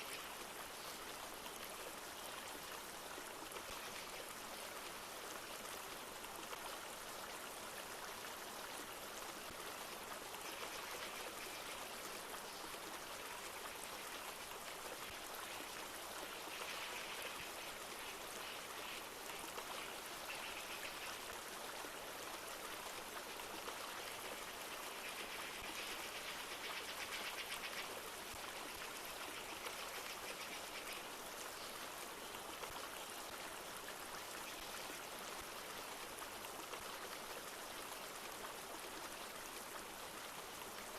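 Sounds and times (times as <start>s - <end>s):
light rain: 0.0s - 40.9s
river flowing: 0.0s - 40.9s.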